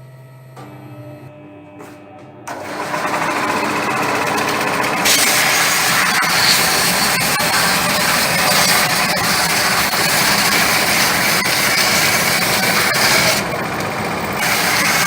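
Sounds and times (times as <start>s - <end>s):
router milling wood: 2.5s - 15.0s.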